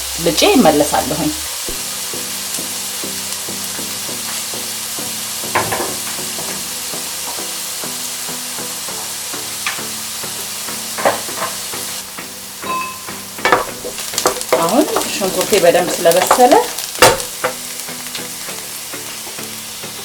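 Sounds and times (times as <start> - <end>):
onion sizzling in a pan: 0.0 - 20.0
soft background music: 0.0 - 20.0.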